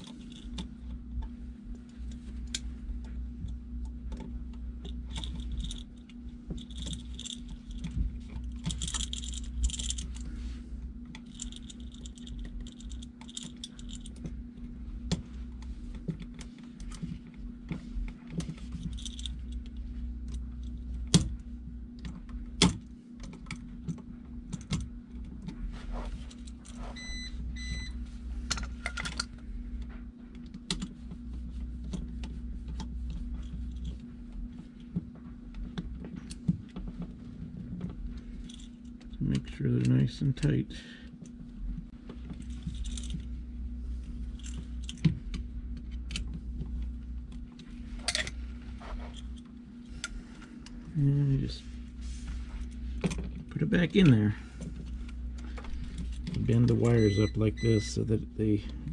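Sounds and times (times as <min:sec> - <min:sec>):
low hum: 0:00.0 - 0:58.9.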